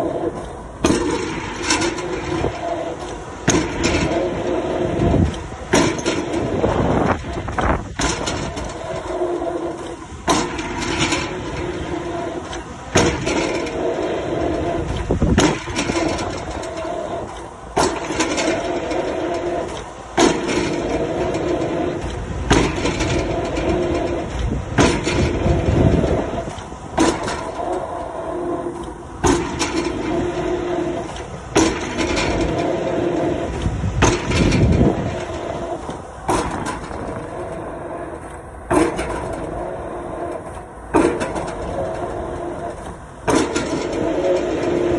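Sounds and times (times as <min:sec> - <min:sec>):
diesel engine drone: 0:00.0 - 0:44.9.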